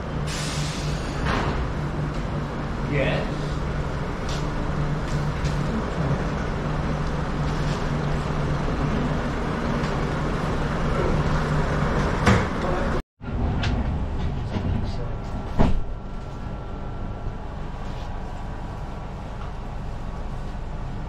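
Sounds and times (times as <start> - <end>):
train running noise and hum: 0.0 - 21.0.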